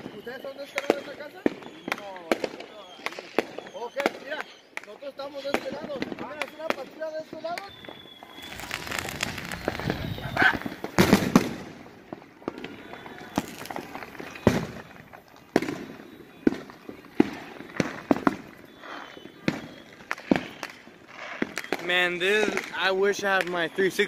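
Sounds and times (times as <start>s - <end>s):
fireworks bangs and pops: 0.0s - 24.0s.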